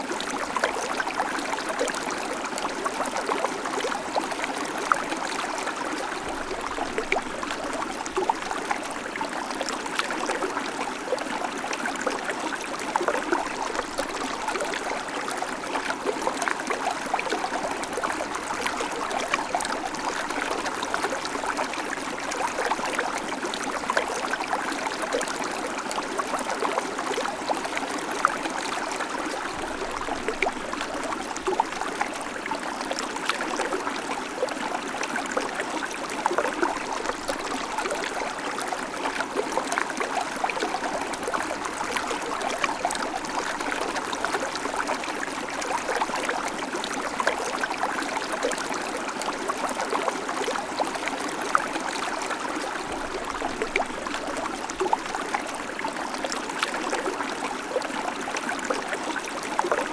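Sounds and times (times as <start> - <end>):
creek babbling over stones: 0.0 - 59.9.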